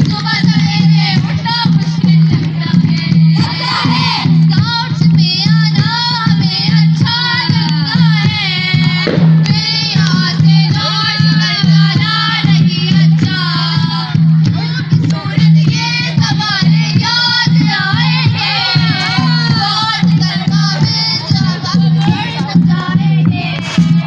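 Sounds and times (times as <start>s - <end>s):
women singing together: 0.0s - 24.0s.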